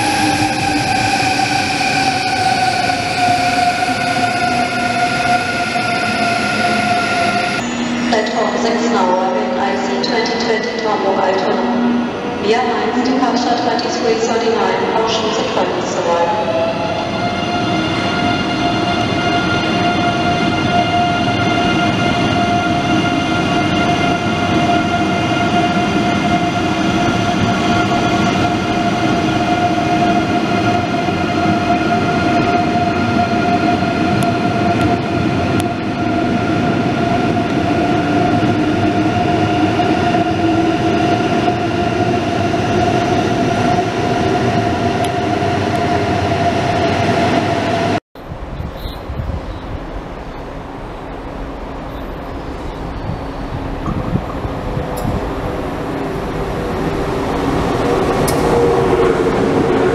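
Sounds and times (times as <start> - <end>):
electric train whine: 0.0 - 48.0, 49.9 - 59.9
train rolling noise: 0.0 - 59.9.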